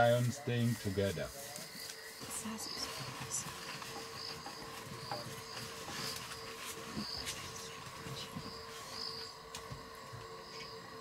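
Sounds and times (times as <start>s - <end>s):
insects droning: 0.0s - 11.0s
shrill insect chirps: 1.6s - 11.0s.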